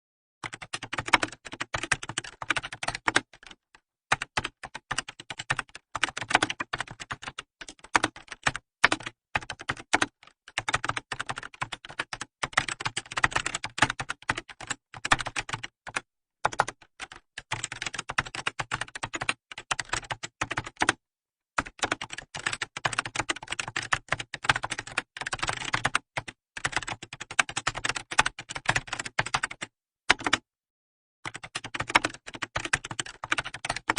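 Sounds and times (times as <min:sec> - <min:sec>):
keyboard typing: 0:00.4 - 0:21.0, 0:21.6 - 0:30.4, 0:31.3 - 0:33.9.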